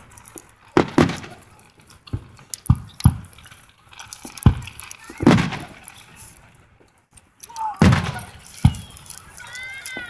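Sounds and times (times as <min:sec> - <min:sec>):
fireworks bursting with bangs: 0:00.0 - 0:06.8, 0:07.5 - 0:10.0.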